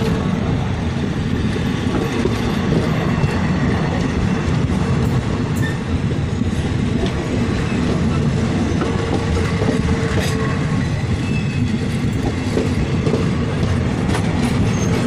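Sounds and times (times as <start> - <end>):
train wheels rattling on rails: 0.0 - 15.0.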